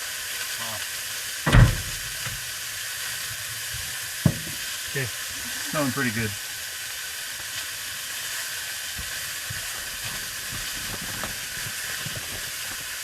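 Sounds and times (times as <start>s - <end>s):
sausages sizzling in a pan: 0.0s - 13.0s
faint crackles: 0.4s - 13.0s.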